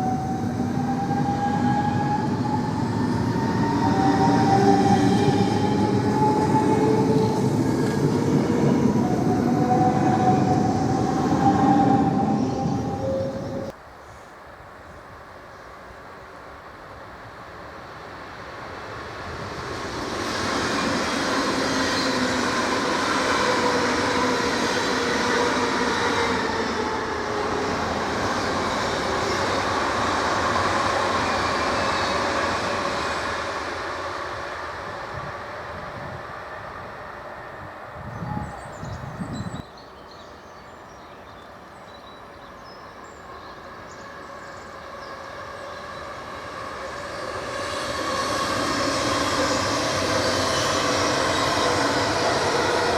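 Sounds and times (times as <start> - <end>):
train rail running noise: 0.0 - 52.9.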